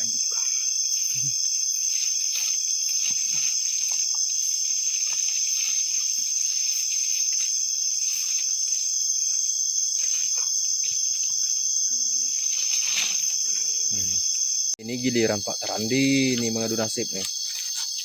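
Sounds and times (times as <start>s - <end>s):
crickets and insects chirring: 0.0s - 18.0s.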